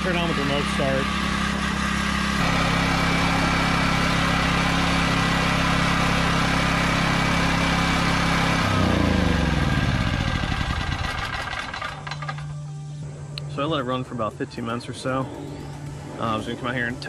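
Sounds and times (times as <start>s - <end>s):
portable generator engine running: 0.0s - 17.0s.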